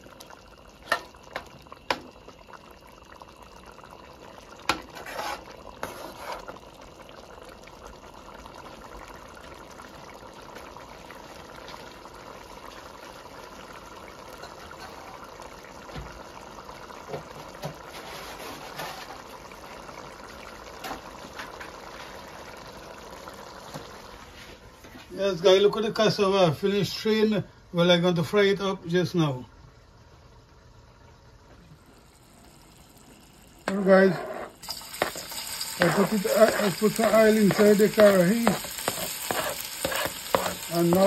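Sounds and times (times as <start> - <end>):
stew bubbling in a pot: 0.0 - 41.0.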